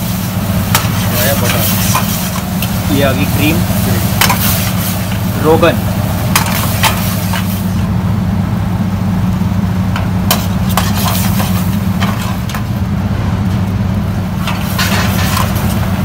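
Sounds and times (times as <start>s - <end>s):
kitchen equipment humming: 0.0s - 16.0s.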